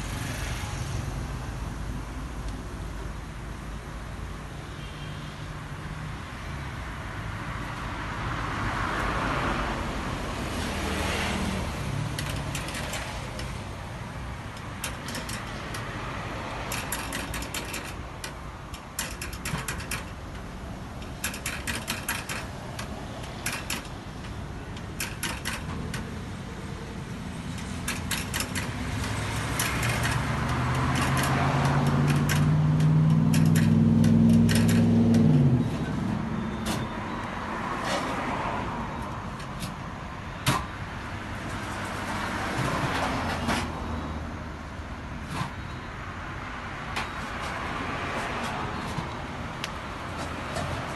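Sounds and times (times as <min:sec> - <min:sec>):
street traffic: 0:00.0 - 0:50.9
heavy vehicle engine: 0:06.8 - 0:50.9.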